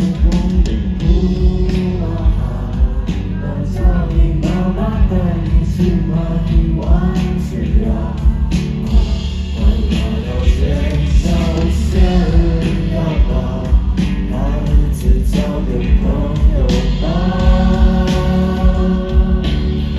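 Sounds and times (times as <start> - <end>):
live rock band playing: 0.0 - 19.9
person singing: 0.0 - 19.9.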